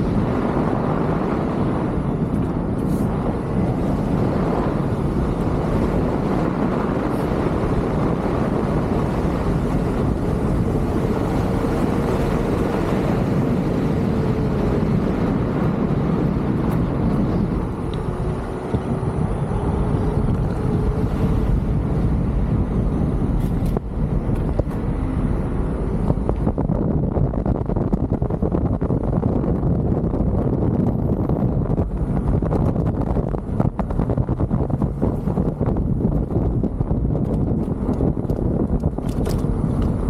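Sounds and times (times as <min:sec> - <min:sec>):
road noise: 0:00.0 - 0:40.0
wind rushing over microphone: 0:00.0 - 0:40.0.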